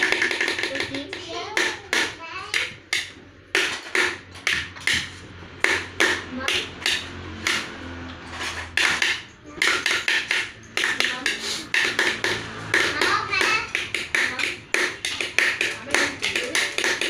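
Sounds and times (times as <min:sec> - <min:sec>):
sharp percussive strikes: 0:00.0 - 0:08.0, 0:08.7 - 0:17.0.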